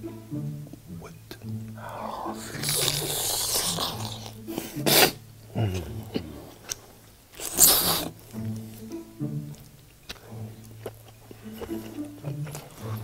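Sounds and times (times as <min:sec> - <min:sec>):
soft background music: 0:00.0 - 0:13.0
mouth eating sounds: 0:00.3 - 0:13.0.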